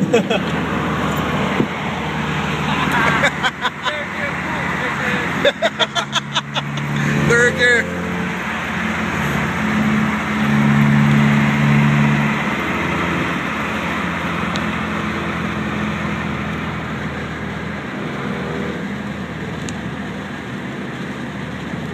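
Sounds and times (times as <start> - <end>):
car engine pulling hard: 0.0 - 21.9
road and wind noise: 0.0 - 21.9.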